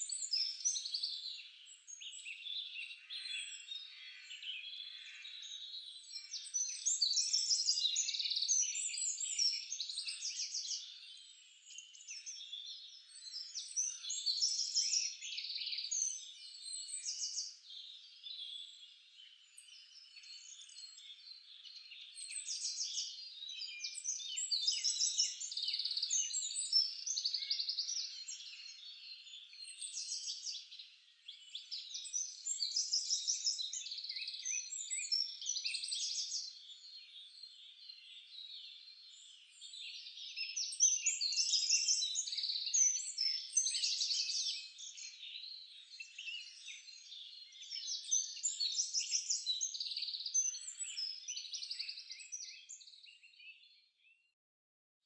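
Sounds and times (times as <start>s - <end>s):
songbirds chirping and trilling: 0.0s - 54.3s.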